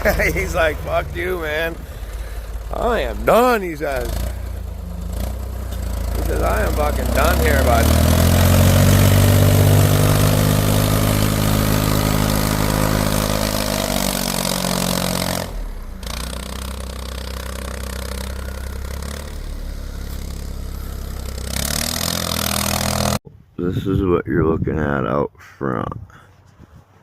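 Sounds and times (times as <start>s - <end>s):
vehicle engine running: 0.0s - 23.2s.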